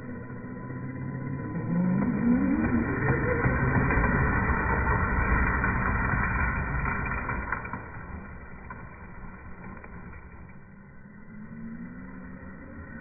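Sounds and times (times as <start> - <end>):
slowed toy truck engine rumble: 0.0 - 13.0.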